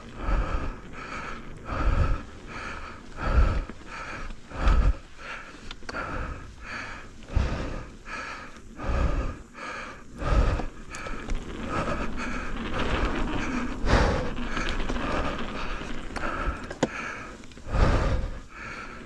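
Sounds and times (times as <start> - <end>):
bike riding noise rushing: 0.0 - 19.0
person breathing hard: 0.0 - 19.0.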